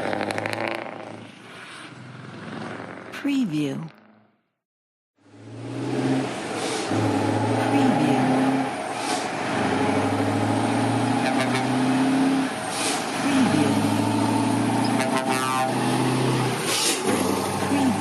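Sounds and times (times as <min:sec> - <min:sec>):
truck engine drone: 0:00.0 - 0:03.2, 0:05.2 - 0:18.0.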